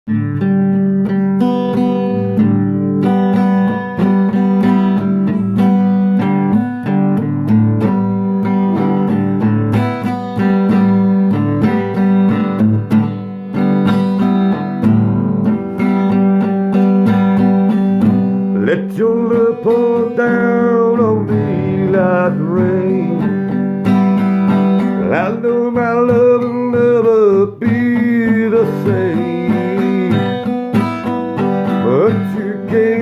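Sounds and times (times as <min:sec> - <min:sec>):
acoustic guitar strumming: 0:00.1 - 0:33.0.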